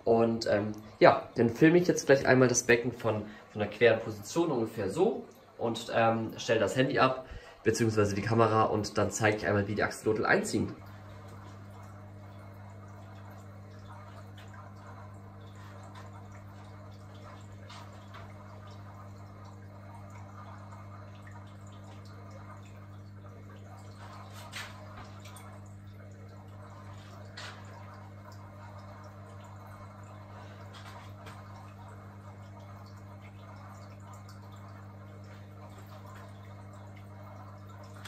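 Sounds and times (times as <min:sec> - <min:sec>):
steady low hum: 0:00.0 - 0:38.0
water dripping: 0:00.0 - 0:38.0.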